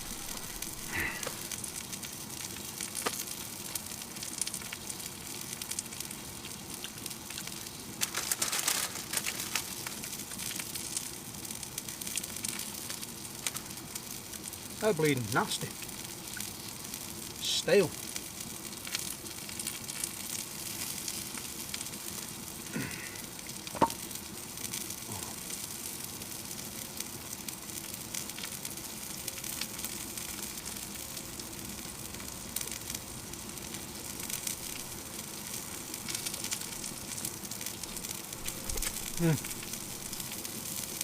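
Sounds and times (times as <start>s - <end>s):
wood fire crackling in a stove: 0.0s - 41.0s.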